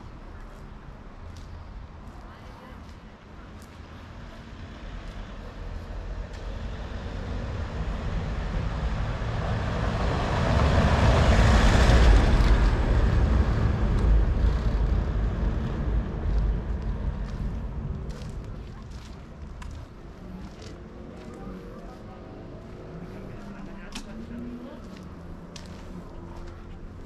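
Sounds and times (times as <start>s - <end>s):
vehicle passing by: 4.1s - 27.0s.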